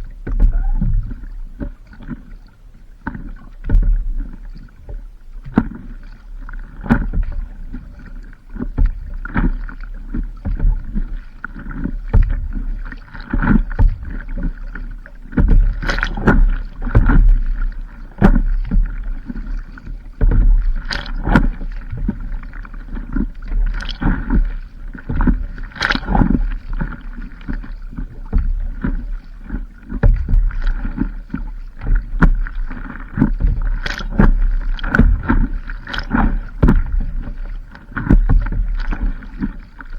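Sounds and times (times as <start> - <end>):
paddle strokes: 0.0 - 39.9
water slapping against board: 0.0 - 39.9.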